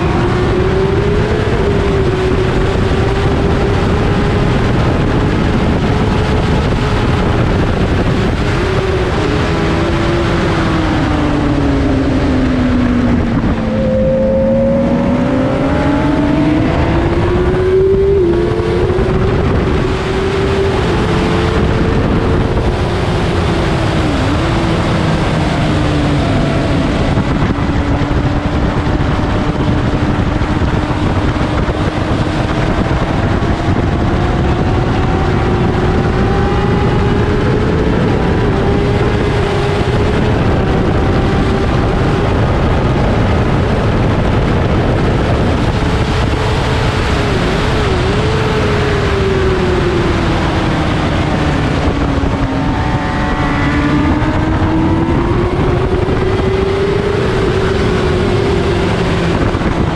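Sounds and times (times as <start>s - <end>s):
motorcycle engine at speed: 0.0s - 59.9s
wind rush: 0.0s - 59.9s.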